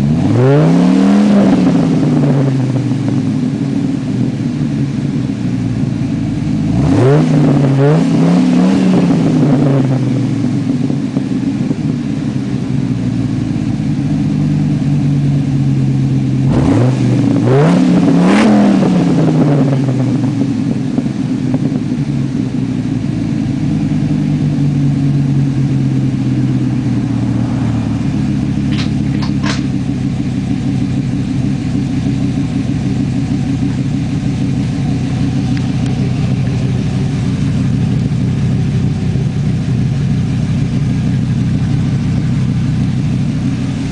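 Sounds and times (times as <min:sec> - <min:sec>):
truck engine idling and revving: 0:00.0 - 0:43.9.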